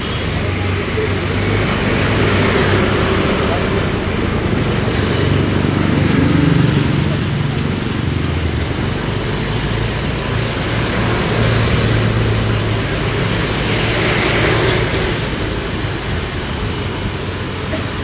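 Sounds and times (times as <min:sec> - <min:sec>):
vehicle engine hum and road noise: 0:00.0 - 0:18.0.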